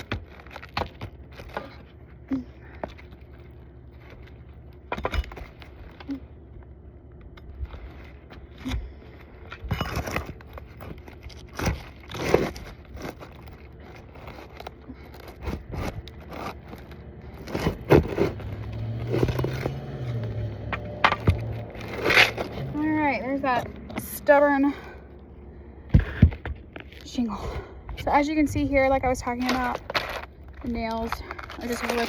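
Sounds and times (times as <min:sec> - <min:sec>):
shingle scraping and crackling: 0:00.0 - 0:32.0.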